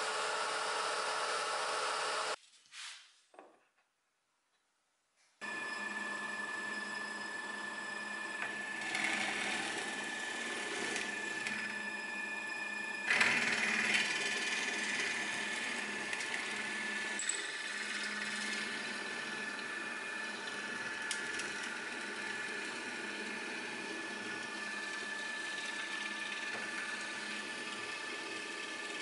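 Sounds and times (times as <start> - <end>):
chisel boring into wood: 0.0 - 2.4, 5.4 - 29.0
drill press motor whining: 0.0 - 2.4, 5.4 - 29.0.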